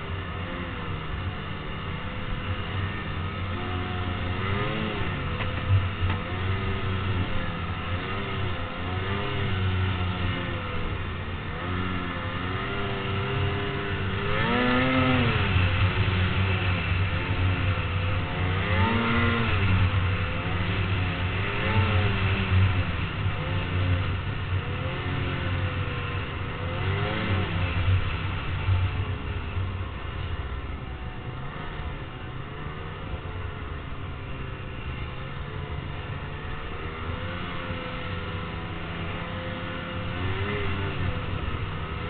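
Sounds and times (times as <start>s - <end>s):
engines revving: 0.0s - 42.0s.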